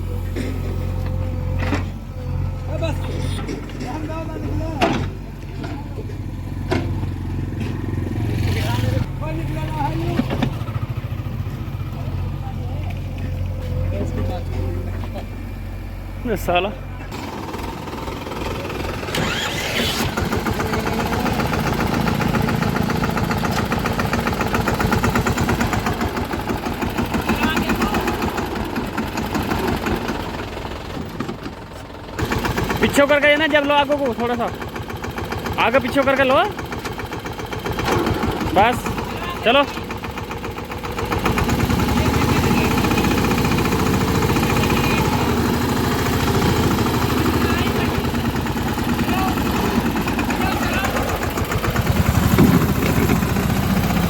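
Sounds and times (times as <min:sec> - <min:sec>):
diesel engine knocking: 0:00.0 - 0:54.0.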